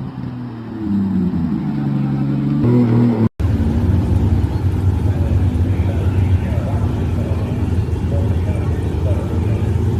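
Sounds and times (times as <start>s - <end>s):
car engine accelerating: 0.0s - 9.9s
deep rough engine running: 0.0s - 9.9s.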